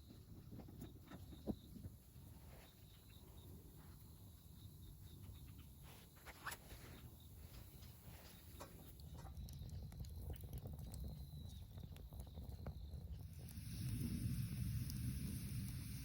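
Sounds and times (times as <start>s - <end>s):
faint crackling of burning wood: 0.0s - 16.0s.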